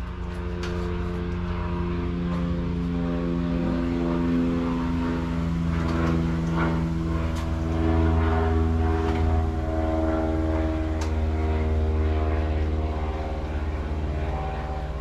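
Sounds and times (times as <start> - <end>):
deep low hum: 0.0 - 15.0
drone of held tones: 0.0 - 15.0.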